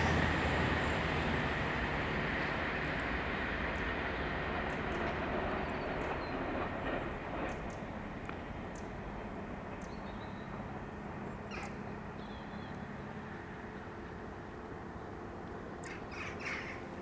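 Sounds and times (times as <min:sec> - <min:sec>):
distant diesel train engine hum: 0:00.0 - 0:17.0.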